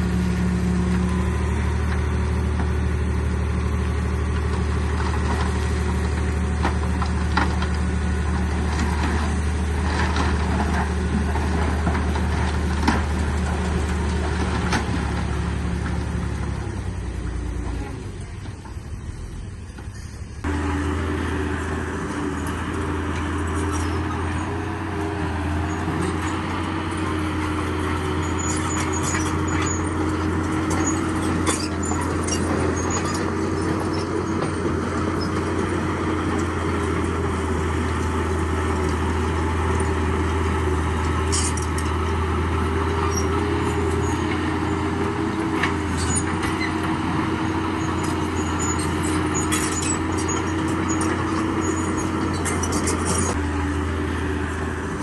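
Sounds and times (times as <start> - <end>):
heavy diesel machinery drone: 0.0 - 55.0.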